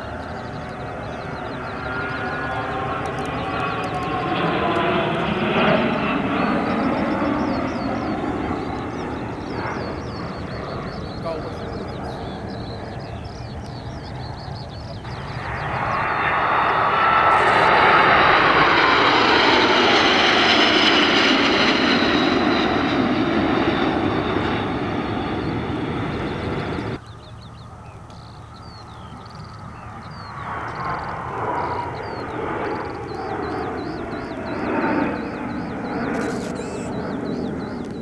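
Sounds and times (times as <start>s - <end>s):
aircraft flying past: 0.0s - 38.0s.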